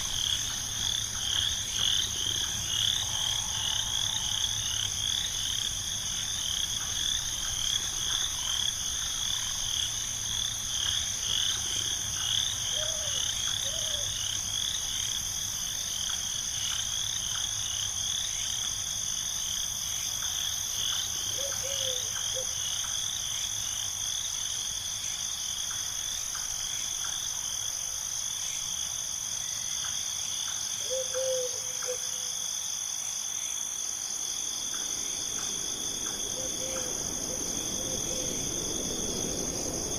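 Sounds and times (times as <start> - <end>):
frogs chirping calls: 0.0 - 18.7, 20.0 - 23.8, 28.4 - 39.9
high insect drone: 0.0 - 39.9.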